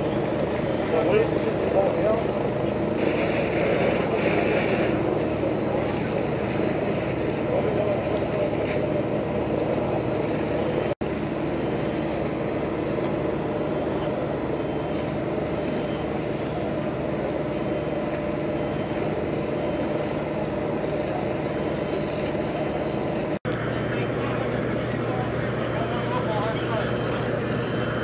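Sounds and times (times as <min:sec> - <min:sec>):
fire engine running: 0:00.0 - 0:28.0.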